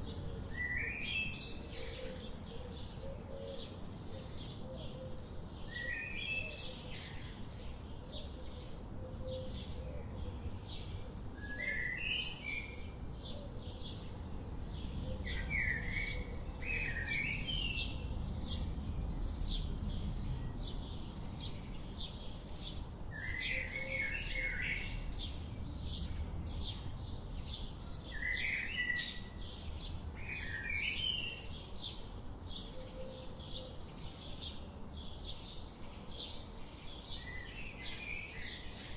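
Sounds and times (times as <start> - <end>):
forest birds singing: 0.0 - 38.9.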